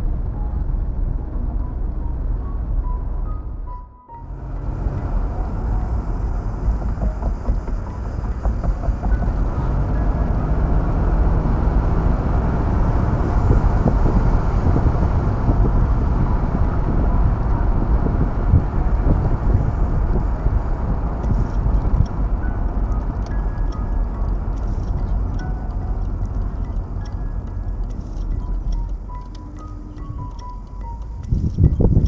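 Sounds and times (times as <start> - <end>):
road and wind noise: 0.0 - 32.0
car engine running: 4.1 - 32.0.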